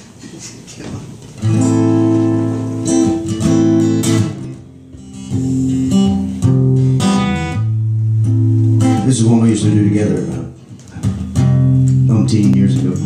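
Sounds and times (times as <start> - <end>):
acoustic guitar strumming: 1.4 - 13.0.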